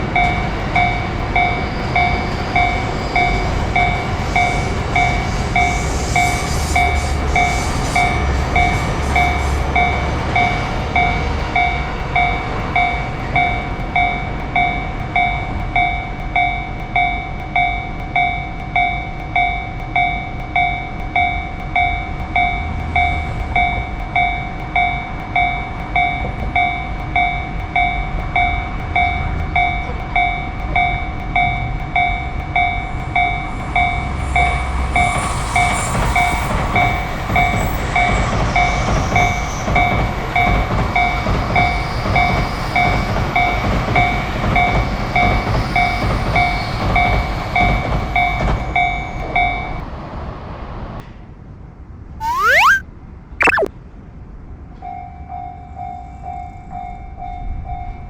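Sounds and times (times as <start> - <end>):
passing train rumble: 0.0 - 50.9.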